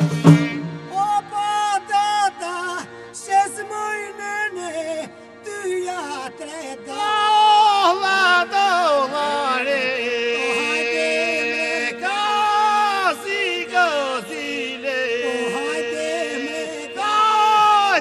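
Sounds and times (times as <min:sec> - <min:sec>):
man singing ornamented notes: 0:00.0 - 0:18.0.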